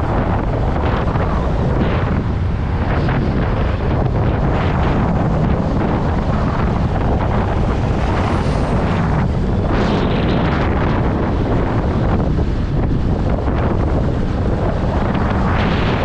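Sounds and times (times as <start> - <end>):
scooter road and engine noise: 0.0 - 16.0
wind buffeting microphone: 0.0 - 16.0.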